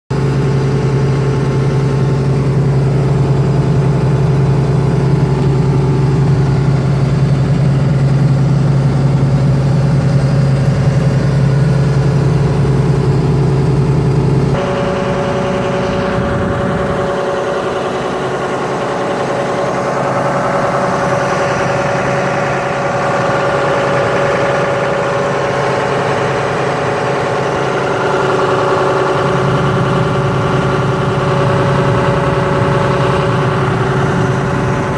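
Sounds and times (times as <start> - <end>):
diesel engine idling: 0.1 - 34.9
hydraulic pump whine: 0.1 - 34.9.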